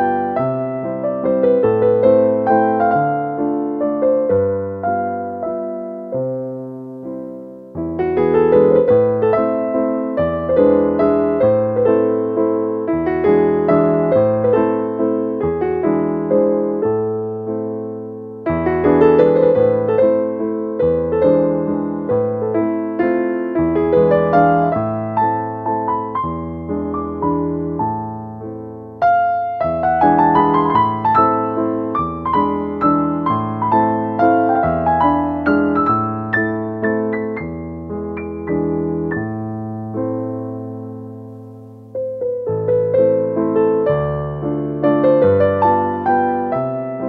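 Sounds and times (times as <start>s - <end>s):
gentle piano tune: 0.0s - 47.0s.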